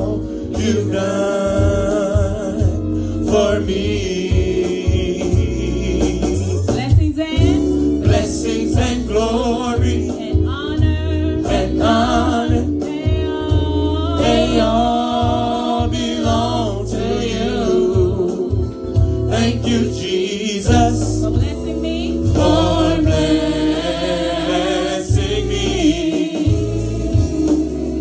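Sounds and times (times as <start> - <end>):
bass accompaniment: 0.0 - 28.0
group singing gospel song: 0.0 - 28.0.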